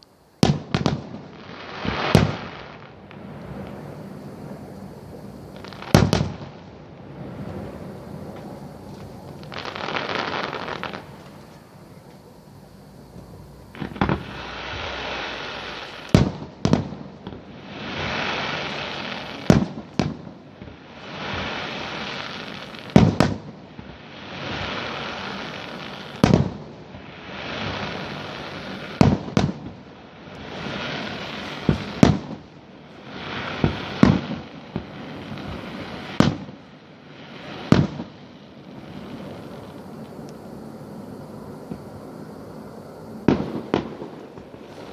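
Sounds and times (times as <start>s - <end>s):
fireworks hissing: 0.0s - 44.9s
fireworks bangs: 0.4s - 44.9s.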